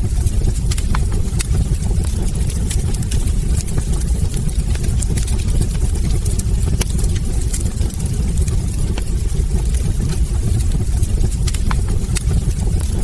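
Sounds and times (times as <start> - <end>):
fire flames rumbling: 0.0 - 13.0
logs crackling and popping: 0.0 - 13.0.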